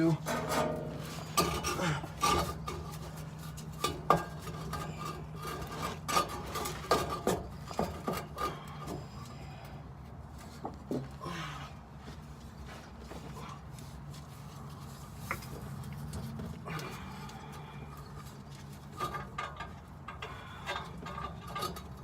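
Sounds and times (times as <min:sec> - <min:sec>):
metal tools clinking and scraping: 0:00.0 - 0:09.6, 0:13.3 - 0:22.0.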